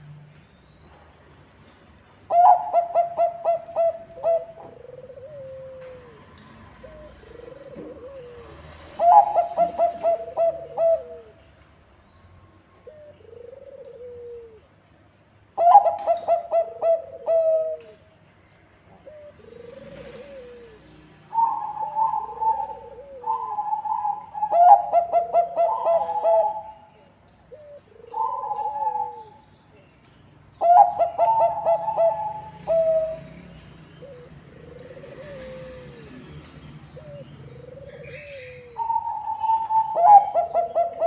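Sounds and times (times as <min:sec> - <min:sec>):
doves cooing: 0:02.3 - 0:11.5, 0:12.8 - 0:14.8, 0:15.6 - 0:18.0, 0:18.9 - 0:29.4, 0:30.6 - 0:41.0.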